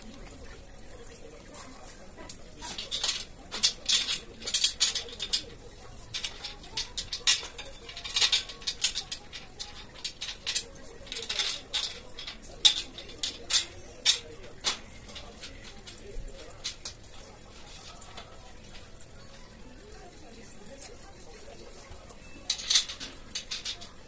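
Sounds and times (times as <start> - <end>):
metal parts clicking and scraping: 1.5 - 19.3, 20.7 - 24.0.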